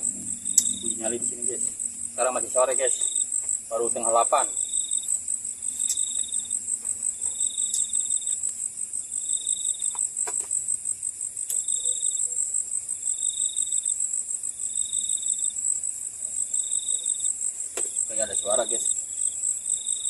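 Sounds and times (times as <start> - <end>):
insect trill: 0.0 - 20.0
shrill cricket drone: 0.0 - 20.0.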